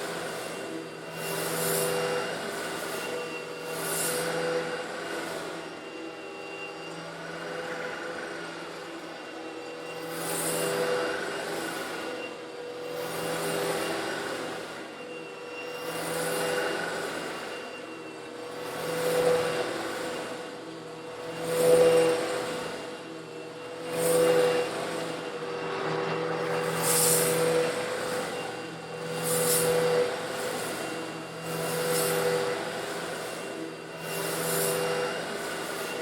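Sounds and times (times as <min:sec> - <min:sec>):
vacuum cleaner motor hum: 0:00.0 - 0:36.0.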